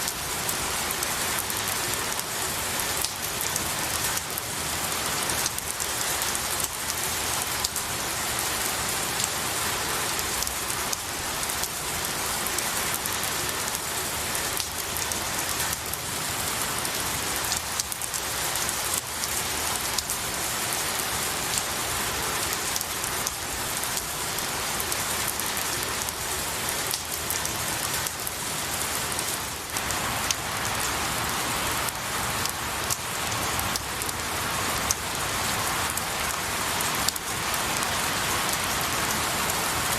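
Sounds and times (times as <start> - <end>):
rain falling on trees: 0.0 - 39.9.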